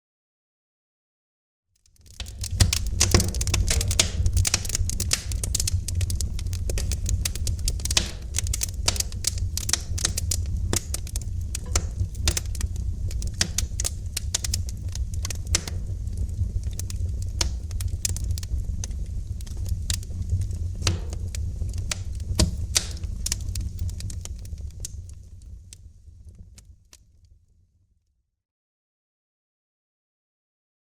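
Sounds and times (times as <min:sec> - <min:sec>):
wood fire crackling and popping: 0:01.8 - 0:27.0
low rumble of flames: 0:01.9 - 0:27.6.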